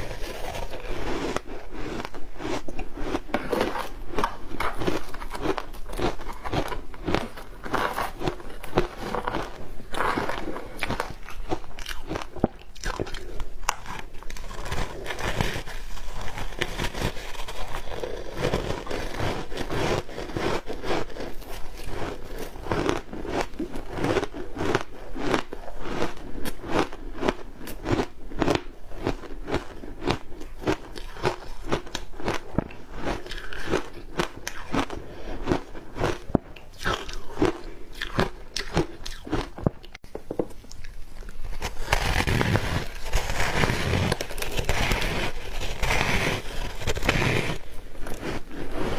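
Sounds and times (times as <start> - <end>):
ice crunching being chewed: 0.0 - 40.0, 40.7 - 48.9.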